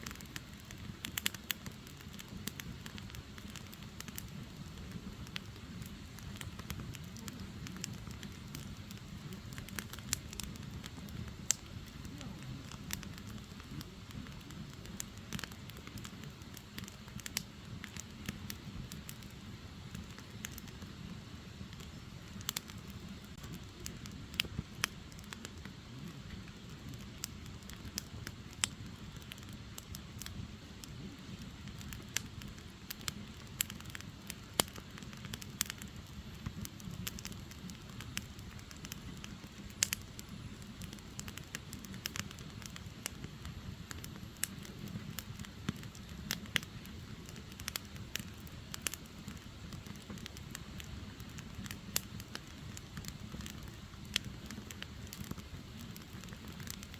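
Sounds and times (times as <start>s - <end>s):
firewood crackling and popping: 0.0s - 56.9s.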